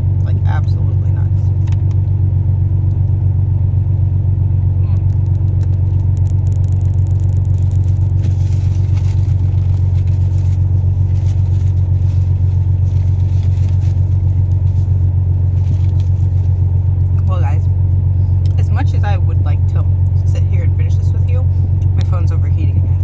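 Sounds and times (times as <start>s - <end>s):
electric fan humming: 0.0s - 23.0s.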